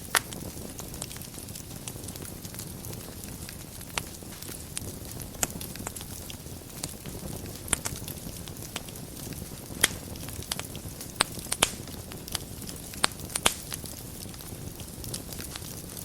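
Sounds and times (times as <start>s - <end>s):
sharp pops of burning wood: 0.0s - 16.0s
wood fire crackling: 0.0s - 16.0s.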